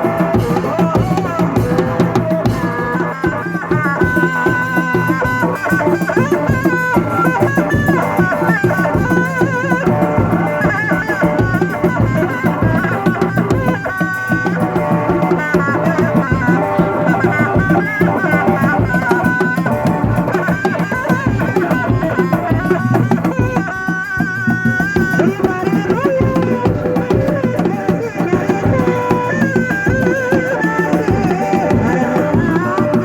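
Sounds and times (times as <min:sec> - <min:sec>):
hand drums beating: 0:00.0 - 0:33.0
high wavering melody: 0:00.0 - 0:33.0.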